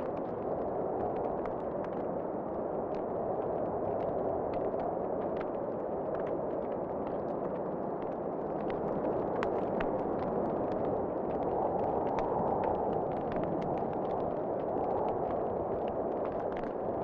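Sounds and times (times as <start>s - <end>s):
wood fire crackling and popping: 2.9s - 17.0s.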